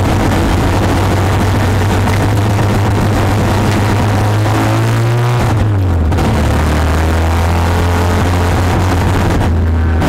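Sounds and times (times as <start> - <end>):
race car engine from inside cabin: 0.0 - 10.0.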